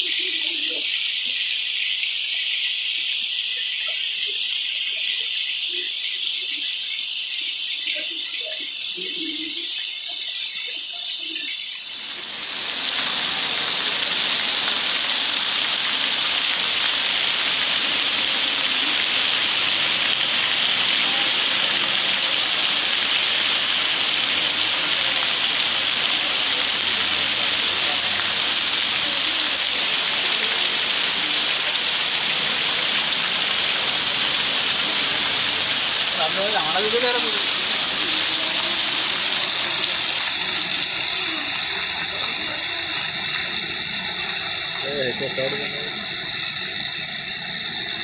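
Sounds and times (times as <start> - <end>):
torrential rain on a street: 0.0 - 48.0.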